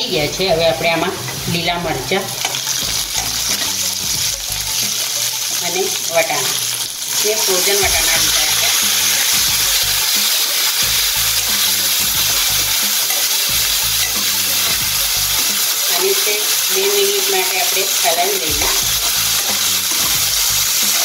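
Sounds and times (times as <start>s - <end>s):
vegetables sizzling in a pan: 0.0s - 21.0s
metal spoon scraping a pan: 0.6s - 4.0s, 4.8s - 21.0s.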